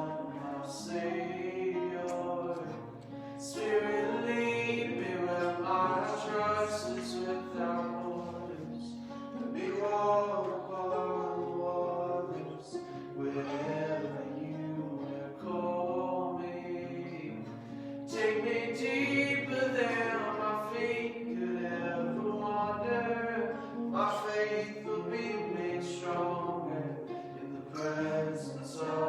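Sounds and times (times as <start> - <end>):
voices singing worship song: 0.0 - 29.0.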